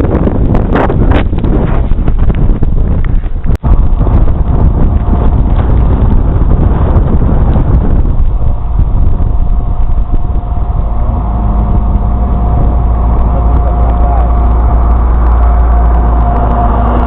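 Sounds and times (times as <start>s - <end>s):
faint steady whine: 0.0s - 17.0s
truck engine rumbling: 0.0s - 17.0s.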